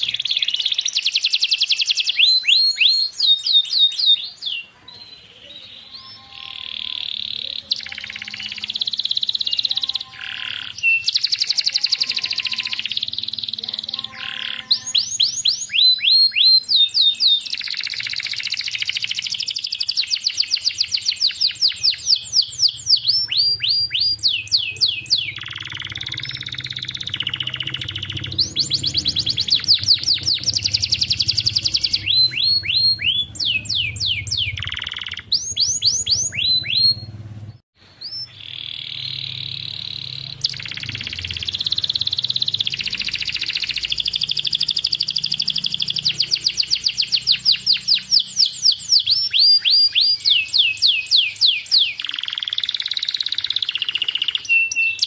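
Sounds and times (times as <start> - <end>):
canary singing trills and warbles: 0.0 - 55.0.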